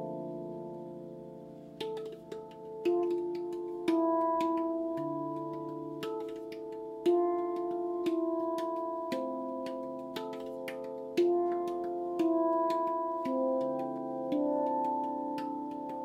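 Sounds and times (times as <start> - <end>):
steel tongue drum notes: 1.7 - 16.0.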